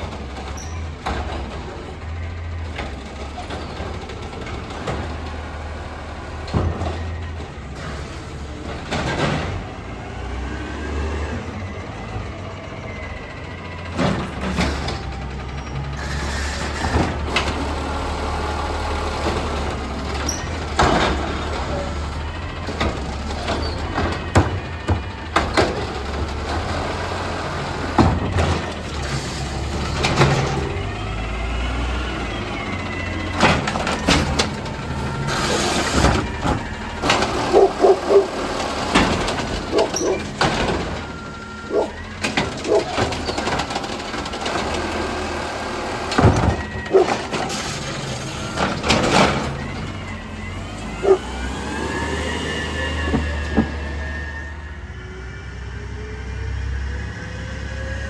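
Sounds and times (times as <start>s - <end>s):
garbage truck engine hum: 0.0s - 58.0s.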